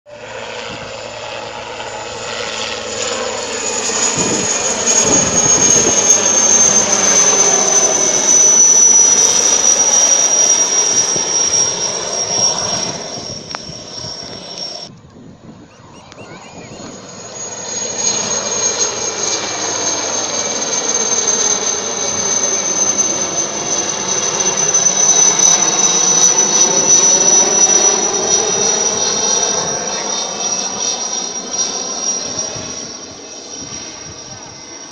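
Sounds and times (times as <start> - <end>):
helicopter flying past: 0.1 - 34.9.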